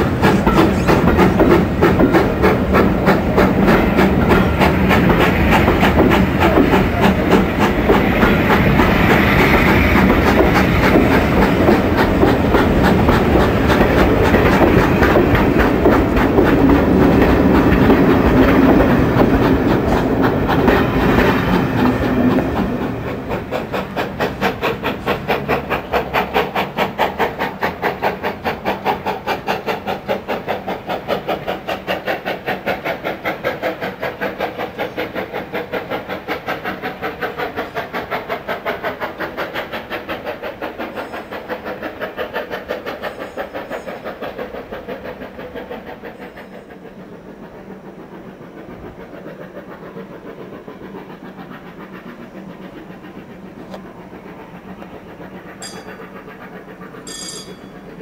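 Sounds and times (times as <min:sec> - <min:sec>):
train wheels clattering over joints: 0:00.0 - 0:58.0.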